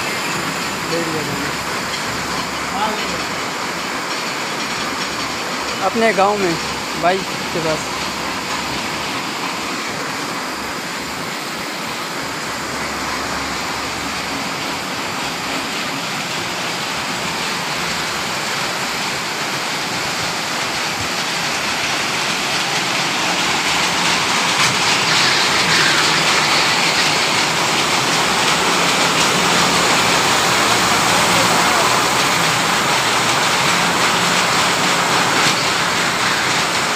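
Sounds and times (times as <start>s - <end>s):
factory machinery rushing noise: 0.0s - 36.9s.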